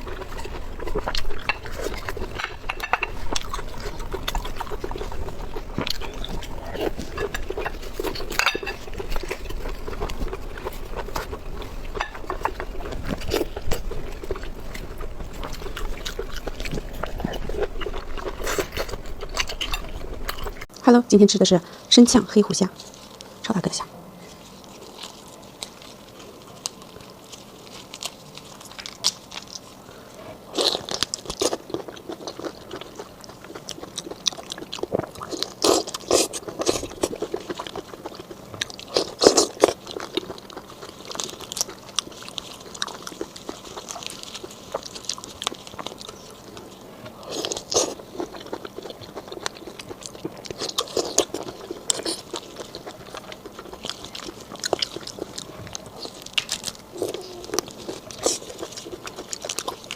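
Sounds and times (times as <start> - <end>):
crunching and biting prawns: 0.0 - 20.7, 24.2 - 59.9
wet chewing: 0.0 - 20.7, 24.2 - 59.9.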